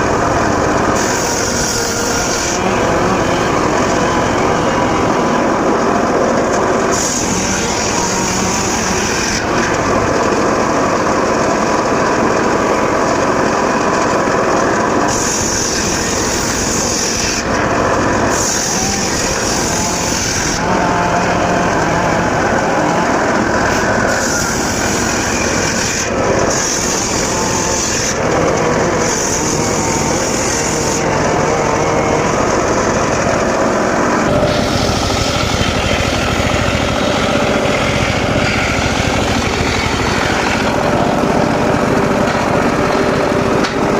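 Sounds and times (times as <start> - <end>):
saw blade hissing through wood: 0.0 - 5.9, 6.6 - 10.3, 15.0 - 41.3
circular saw engine running: 0.0 - 43.9.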